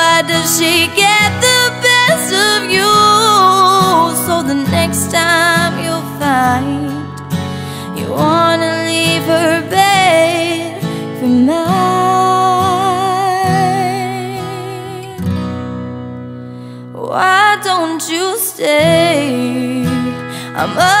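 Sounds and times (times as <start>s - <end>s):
woman singing a ballad: 0.0s - 15.6s, 16.6s - 21.0s
strummed acoustic guitar: 0.0s - 21.0s.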